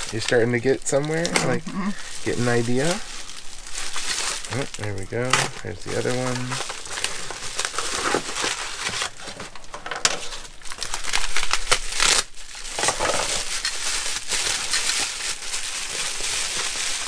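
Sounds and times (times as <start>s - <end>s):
paper and bubble wrap crinkling: 0.0s - 17.0s.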